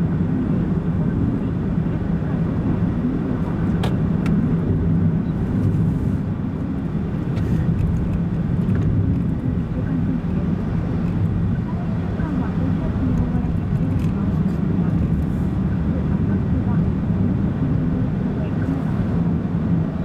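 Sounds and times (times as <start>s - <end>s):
car engine and road noise hum: 0.2s - 20.0s.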